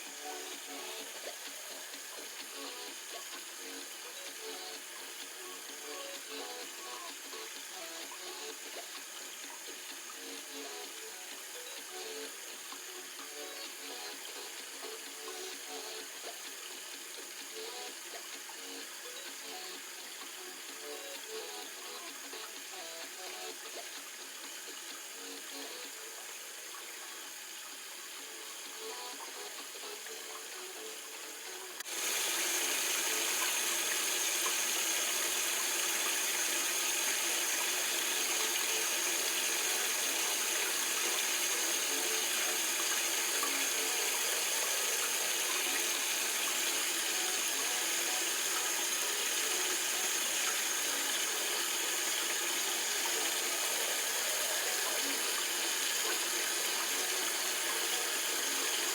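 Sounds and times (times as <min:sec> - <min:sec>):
running water rushing: 0:00.0 - 0:58.9.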